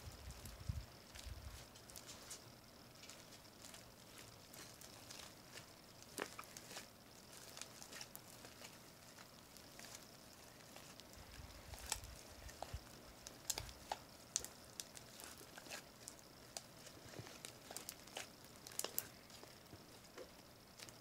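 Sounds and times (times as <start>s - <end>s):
slime clicking and crackling: 3.6s - 21.0s.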